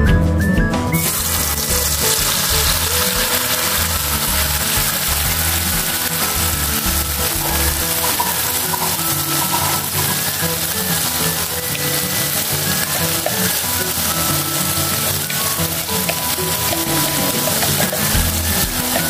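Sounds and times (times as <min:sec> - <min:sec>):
background music: 0:00.0 - 0:19.0
spice paste sizzling in hot oil: 0:01.0 - 0:19.0.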